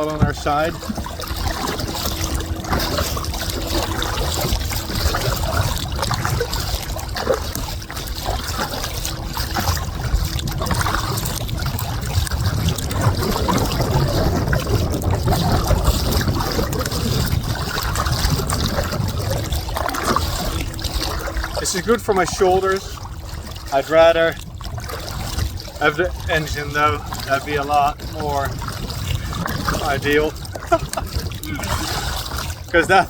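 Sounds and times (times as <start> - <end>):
paddle splashing water: 0.0 - 33.0
steady low rumble: 0.0 - 33.0.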